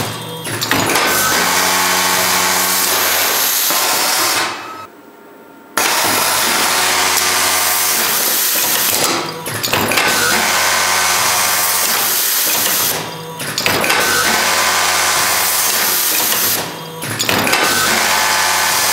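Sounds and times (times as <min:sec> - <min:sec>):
overlock sewing machine whirring: 0:00.0 - 0:04.9, 0:05.8 - 0:18.9
motor hum: 0:00.0 - 0:05.0, 0:05.6 - 0:18.9.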